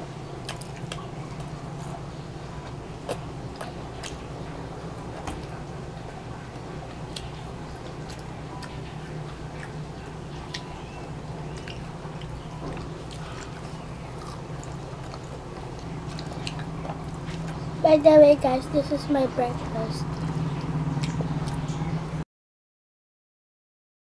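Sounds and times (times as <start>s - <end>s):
steady low hum: 0.0s - 22.2s
chewing and crunching food: 0.3s - 17.8s, 18.6s - 22.1s.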